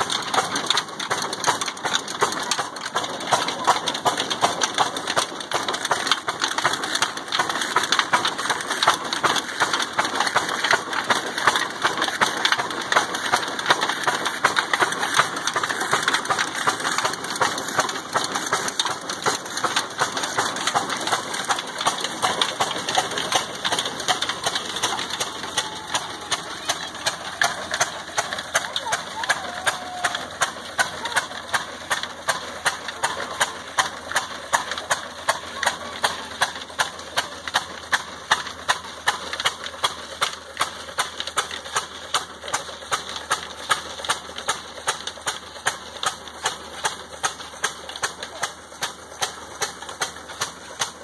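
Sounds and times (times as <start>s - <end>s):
diesel engine running: 0.0s - 51.0s
grinding stones: 0.0s - 51.0s
slapping belts: 0.0s - 51.0s.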